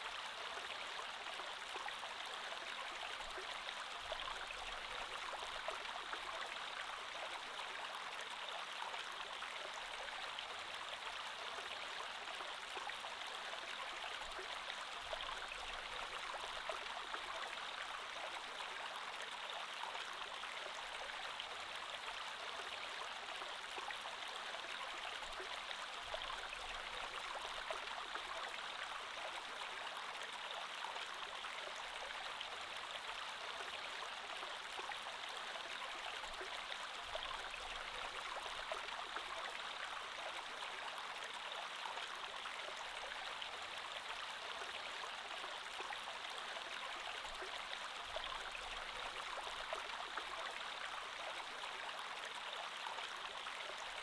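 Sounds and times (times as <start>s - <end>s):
creek water flowing over stones: 0.0s - 54.0s.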